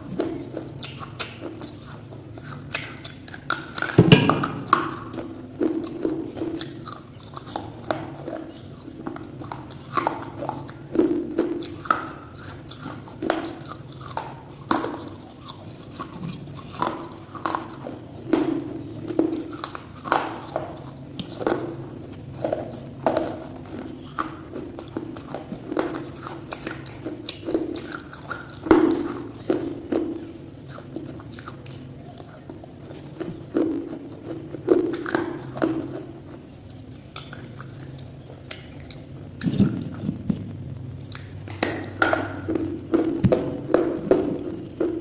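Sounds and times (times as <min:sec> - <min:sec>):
person chewing crunchy food: 0:00.0 - 0:45.0.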